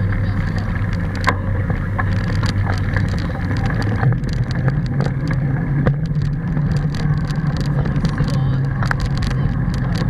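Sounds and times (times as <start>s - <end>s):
rumble of riding on paved path: 0.0s - 10.0s
traffic hum: 0.0s - 10.0s
camera clicks and rattles: 0.8s - 10.0s.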